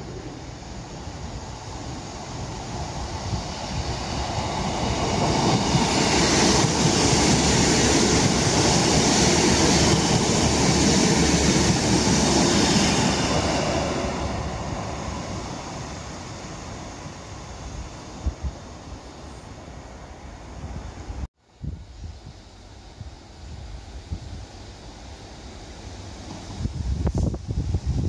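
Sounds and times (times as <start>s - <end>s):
diesel train passing: 0.0s - 21.3s, 22.6s - 28.0s.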